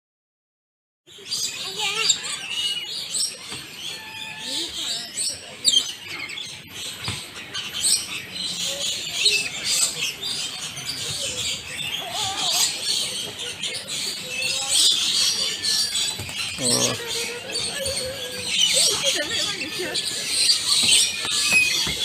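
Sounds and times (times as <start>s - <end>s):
small birds chirping: 1.1s - 22.0s.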